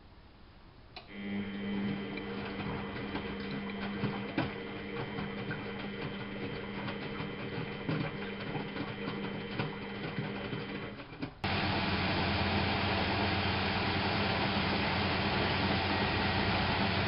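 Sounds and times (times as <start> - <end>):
motor start click: 1.0 - 17.0
washing machine humming: 1.0 - 17.0.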